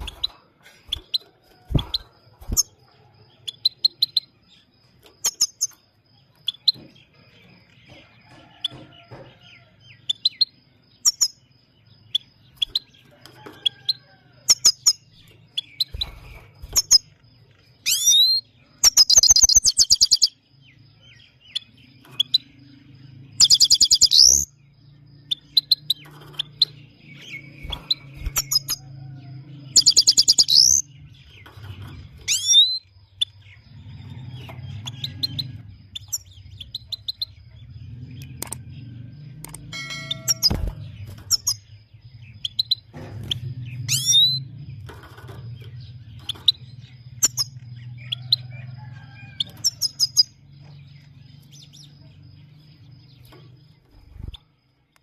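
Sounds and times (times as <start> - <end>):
buzzy rolling bird trills: 0.0 - 7.6, 8.3 - 54.9
finch chirping and twittering: 0.0 - 55.0.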